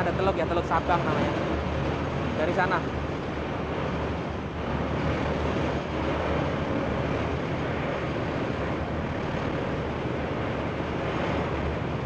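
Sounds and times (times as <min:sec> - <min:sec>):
rush of churning wake: 0:00.0 - 0:12.0
ship engines droning: 0:00.0 - 0:12.0.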